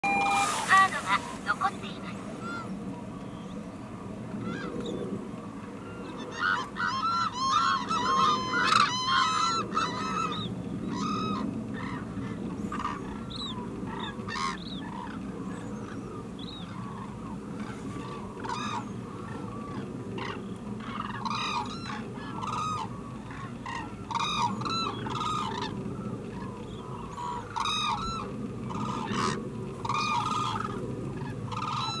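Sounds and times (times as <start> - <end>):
cranes calling: 0.0 - 32.0.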